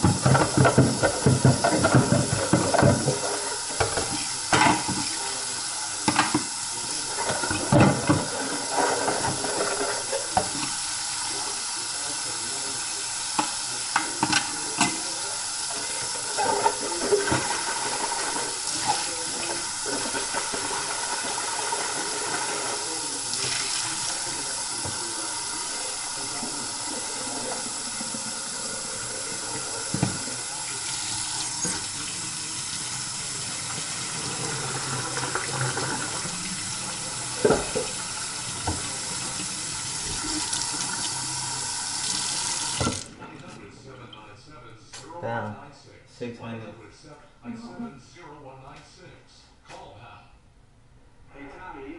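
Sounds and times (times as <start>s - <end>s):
faucet running into sink: 0.0s - 43.2s.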